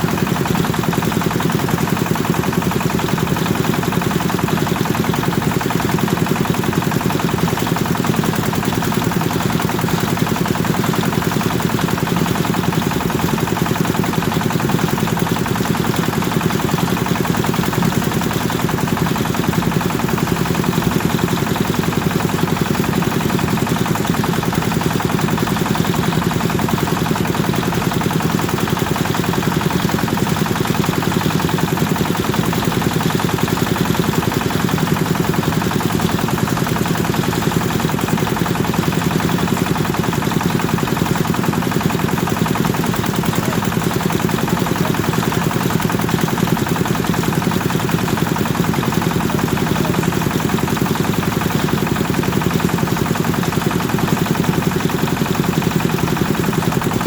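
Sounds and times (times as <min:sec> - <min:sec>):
engine driving a thresher: 0:00.0 - 0:57.0.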